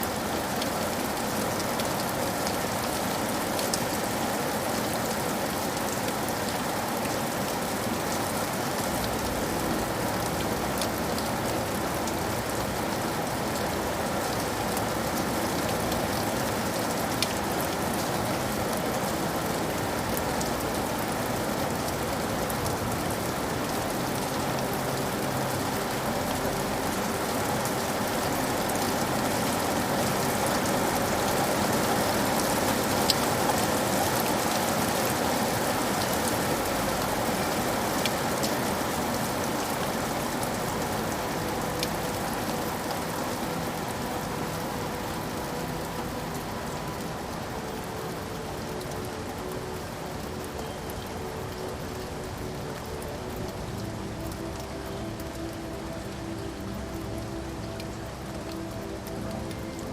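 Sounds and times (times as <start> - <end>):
raindrops ticking: 0.0 - 59.9
steady rain falling: 0.0 - 59.9.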